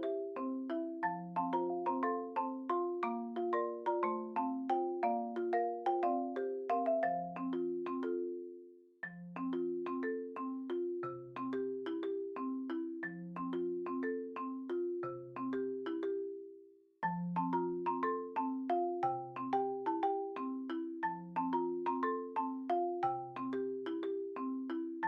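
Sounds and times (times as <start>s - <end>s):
marimba tune: 0.0s - 25.0s.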